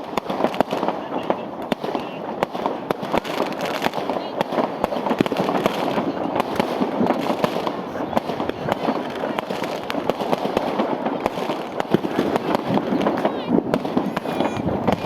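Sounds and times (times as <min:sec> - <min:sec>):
continuous rumbling: 0:00.0 - 0:15.0
fireworks banging and popping: 0:00.0 - 0:15.0.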